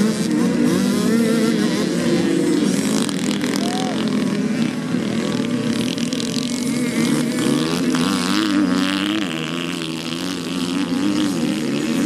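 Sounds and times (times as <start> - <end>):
small motorbike engines racing: 0.0 - 12.0.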